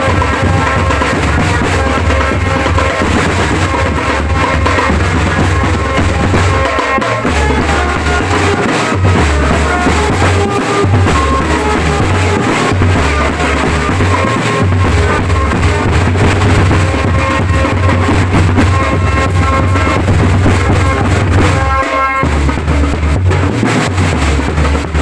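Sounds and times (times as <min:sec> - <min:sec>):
drum band music: 0:00.0 - 0:25.0.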